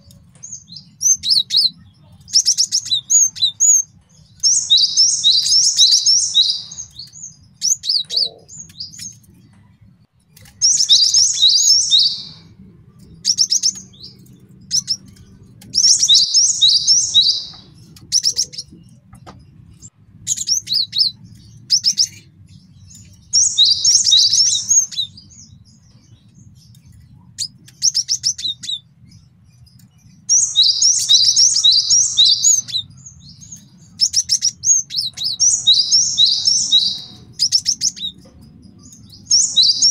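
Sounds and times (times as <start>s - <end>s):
bird chirping song: 0.0s - 39.9s
faint low hum: 0.0s - 39.9s.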